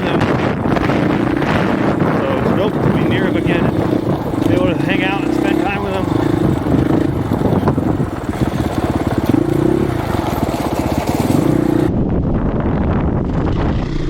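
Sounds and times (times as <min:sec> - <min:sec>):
dirt bike engine revving: 0:00.0 - 0:11.9
wind buffeting microphone: 0:00.0 - 0:14.0.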